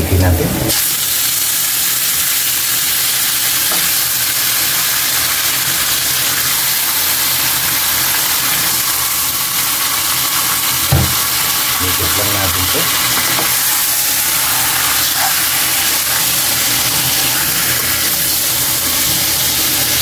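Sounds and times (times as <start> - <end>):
chicken sizzling in hot oil: 0.7 - 20.0.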